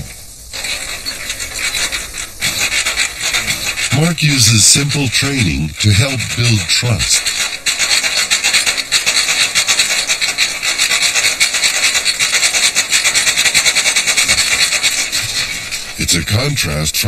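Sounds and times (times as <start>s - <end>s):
rasping crackling hiss: 0.0s - 17.0s.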